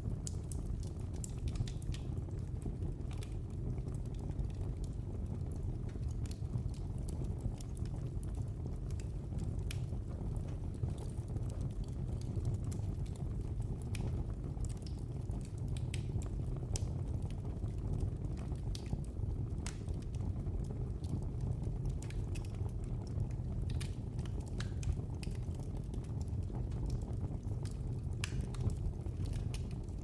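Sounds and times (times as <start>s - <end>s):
fire crackles and pops: 0.0s - 30.0s
fire flames rumbling: 0.0s - 30.0s.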